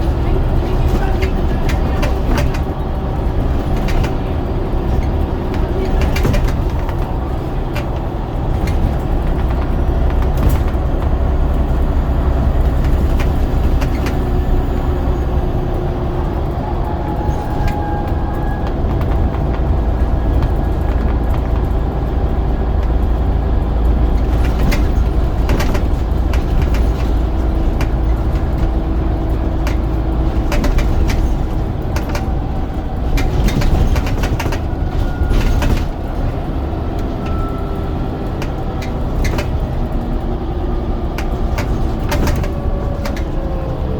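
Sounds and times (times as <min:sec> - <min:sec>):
bus diesel engine drone: 0:00.0 - 0:43.9
clicks and rattles: 0:00.1 - 0:11.7, 0:12.3 - 0:14.9, 0:17.1 - 0:37.5, 0:38.2 - 0:40.3, 0:41.1 - 0:43.5.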